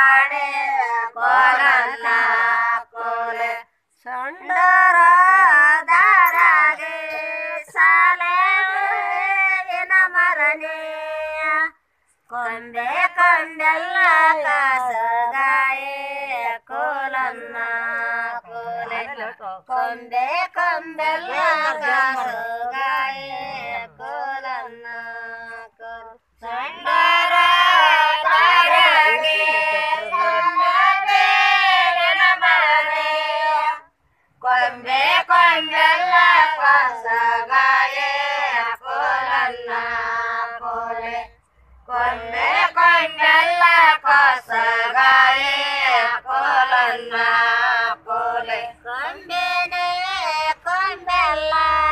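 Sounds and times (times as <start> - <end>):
women singing unaccompanied: 0.0 - 51.9.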